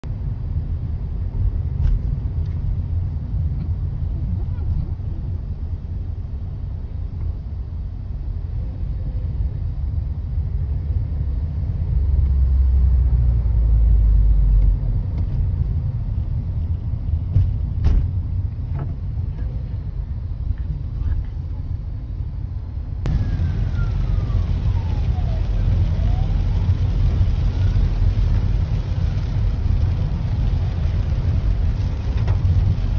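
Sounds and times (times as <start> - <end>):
car road and engine rumble: 0.0 - 32.9.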